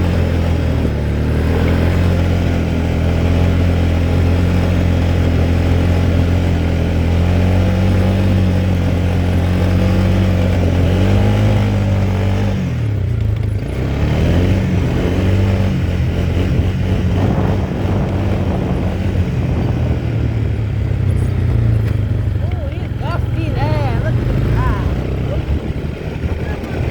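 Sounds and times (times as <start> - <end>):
quad bike engine running: 0.0 - 26.9.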